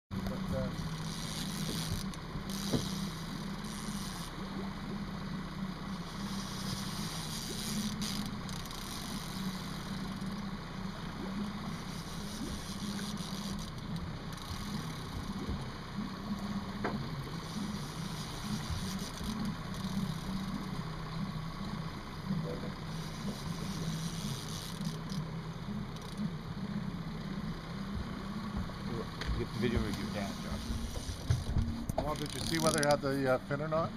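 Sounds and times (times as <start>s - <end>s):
outboard motor idling: 0.1s - 33.9s.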